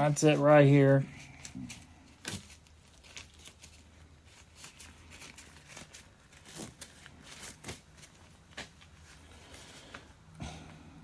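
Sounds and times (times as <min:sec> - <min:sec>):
rustling: 0:00.2 - 0:10.3.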